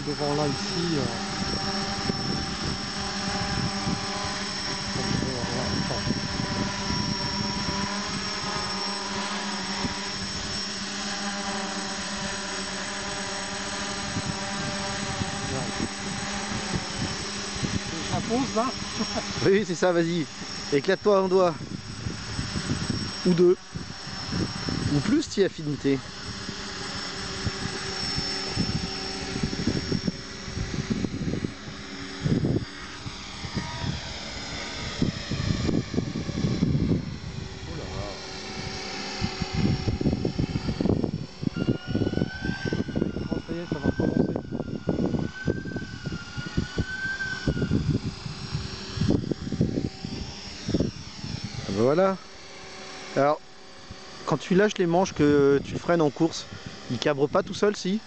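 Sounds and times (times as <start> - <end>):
wind rumbling on microphone: 0.0 - 52.7, 53.3 - 58.0
drone motors whirring: 0.0 - 58.0.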